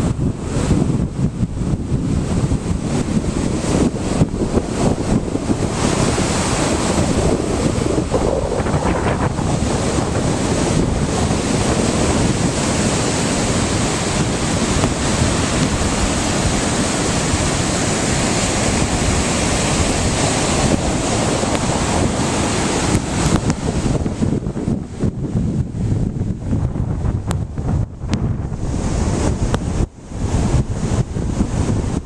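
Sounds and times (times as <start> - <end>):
ocean surf washing in: 0.0 - 32.0
wind buffeting microphone: 0.0 - 32.0.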